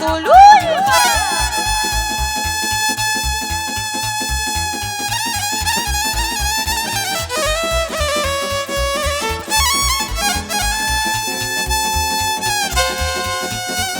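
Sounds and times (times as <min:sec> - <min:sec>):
steady bass beat: 0:00.0 - 0:13.9
lead melody instrument: 0:00.6 - 0:13.9.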